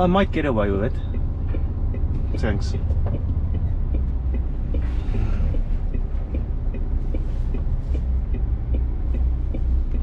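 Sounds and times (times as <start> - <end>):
light ticking: 0.0 - 10.0
lorry diesel engine rumbling: 0.0 - 10.0.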